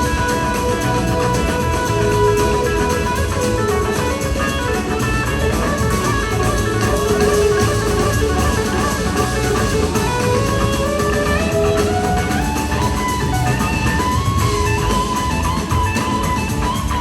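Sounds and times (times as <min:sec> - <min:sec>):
bass guitar: 0:00.0 - 0:17.0
drums: 0:00.0 - 0:17.0
electric guitar lead: 0:00.0 - 0:17.0.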